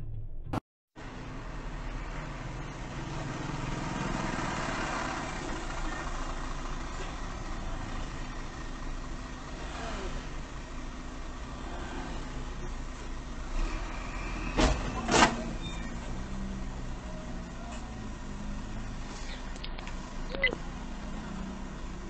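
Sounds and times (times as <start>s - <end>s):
car engines idling: 1.0s - 22.0s
vehicles moving slowly past: 1.0s - 22.0s.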